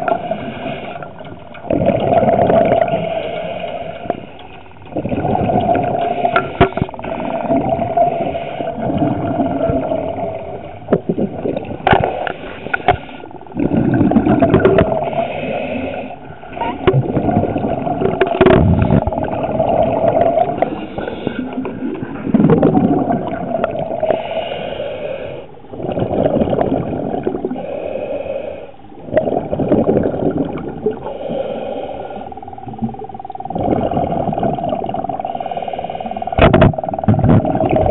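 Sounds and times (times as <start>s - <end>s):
exhaled bubbles underwater: 0.0s - 24.6s, 25.7s - 27.8s, 28.9s - 37.9s.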